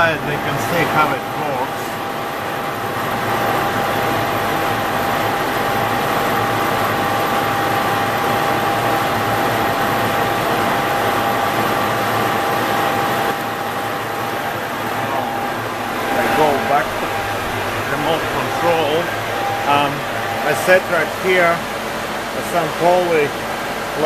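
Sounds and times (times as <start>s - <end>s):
high machine tone: 0.0s - 23.6s
milling machine cutting metal: 0.0s - 24.0s.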